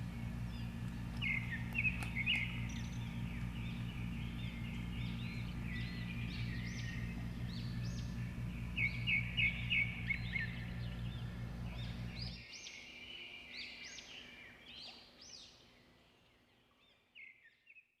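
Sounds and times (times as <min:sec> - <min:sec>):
steady low hum: 0:00.0 - 0:16.8
birds chirping: 0:00.0 - 0:17.9.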